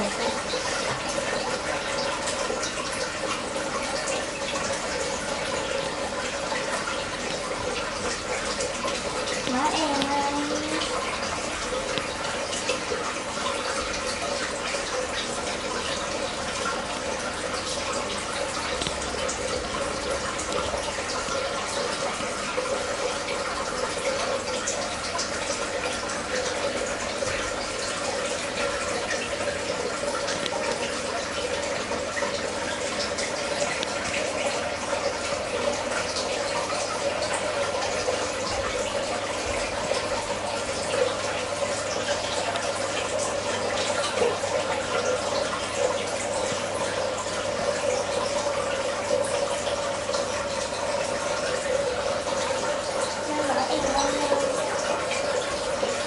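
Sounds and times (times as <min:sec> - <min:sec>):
constant hum: 0:00.0 - 0:56.0
trickling running water: 0:00.0 - 0:56.0.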